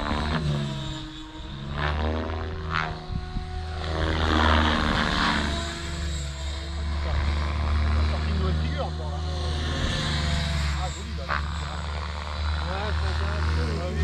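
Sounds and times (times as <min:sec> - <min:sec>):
model helicopter rotor whine: 0:00.0 - 0:14.0.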